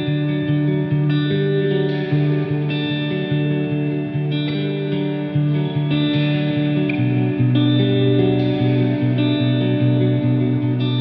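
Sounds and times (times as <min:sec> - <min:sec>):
instrumental music with bass line: 0:00.0 - 0:11.0.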